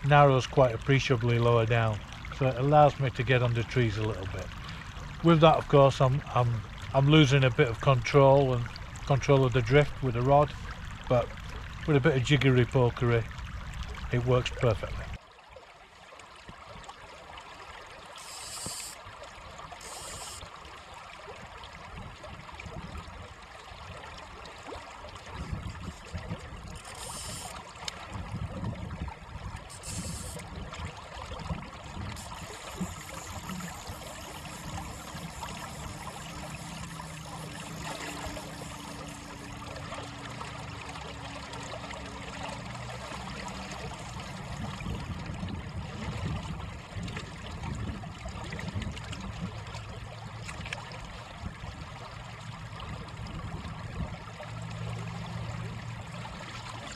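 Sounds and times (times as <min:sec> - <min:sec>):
stream running over stones: 0:00.0 - 0:56.9.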